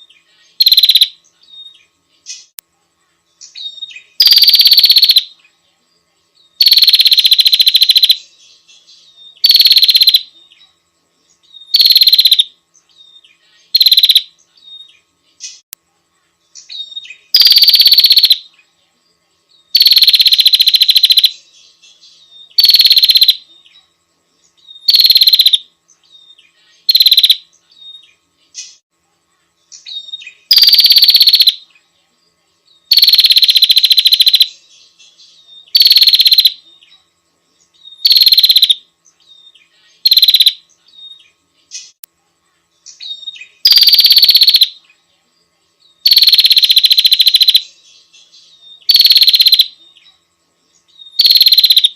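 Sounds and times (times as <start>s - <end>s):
bird harsh buzzing calls: 0.0s - 2.6s, 3.4s - 5.5s, 6.6s - 15.6s, 16.5s - 18.5s, 19.7s - 28.8s, 29.7s - 31.8s, 32.8s - 42.0s, 42.8s - 45.0s, 46.0s - 51.9s.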